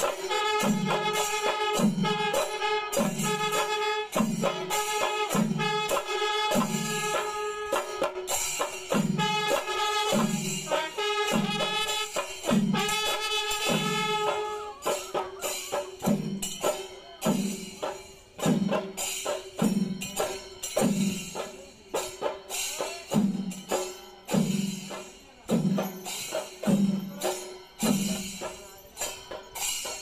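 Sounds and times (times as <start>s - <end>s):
metallic cymbal clashing: 0.0s - 30.0s.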